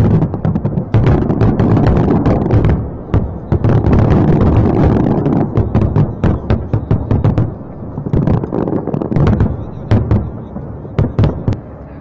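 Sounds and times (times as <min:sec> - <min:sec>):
continuous low rumble: 0:00.0 - 0:12.0
fireworks bursting: 0:00.0 - 0:12.0.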